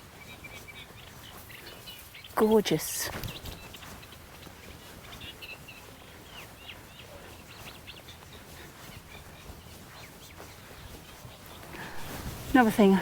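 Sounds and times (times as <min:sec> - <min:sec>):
outdoor background hiss: 0:00.0 - 0:13.0
songbirds chirping: 0:00.0 - 0:13.0.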